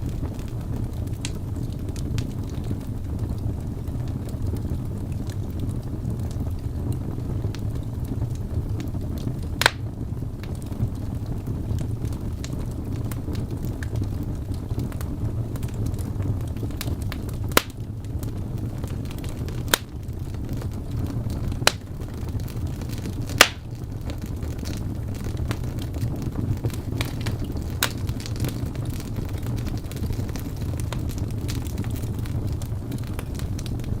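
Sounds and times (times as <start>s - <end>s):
fire crackling and popping: 0.0s - 34.0s
wood fire rumbling: 0.0s - 34.0s.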